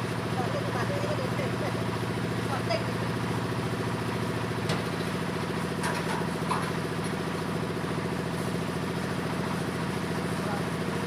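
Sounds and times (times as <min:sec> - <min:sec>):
corn sheller engine drone: 0:00.0 - 0:11.0.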